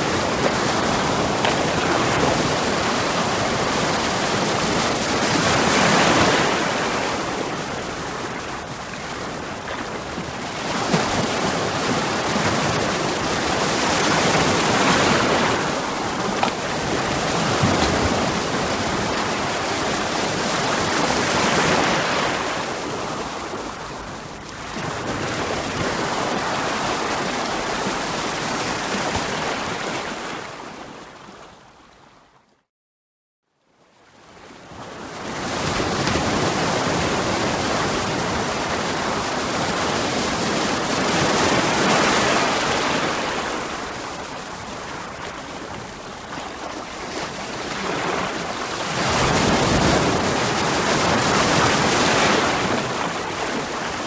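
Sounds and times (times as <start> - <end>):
ocean waves breaking on rocks: 0.0 - 24.0, 24.7 - 30.9, 35.2 - 54.0.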